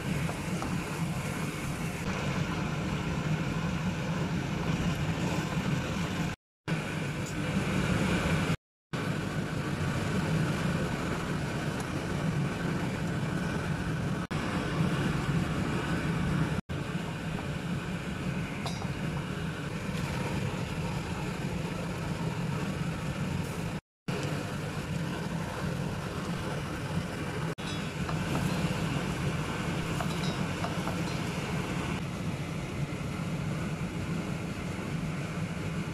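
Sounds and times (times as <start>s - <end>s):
wok simmering: 0.0s - 35.9s.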